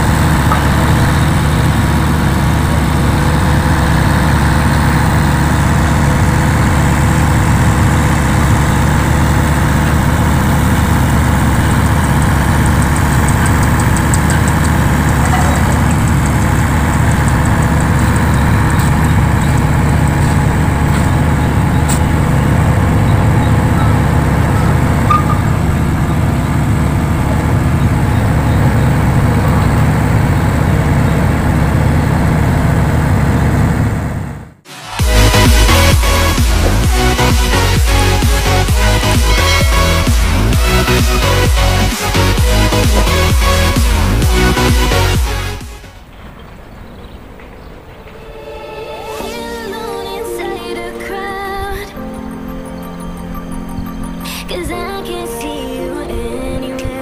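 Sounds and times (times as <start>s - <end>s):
diesel engine idling: 0.0s - 48.2s.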